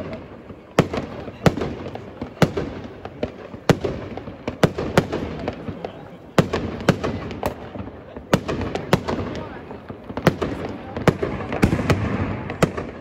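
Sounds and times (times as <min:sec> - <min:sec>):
firework crackling: 0:00.0 - 0:13.0.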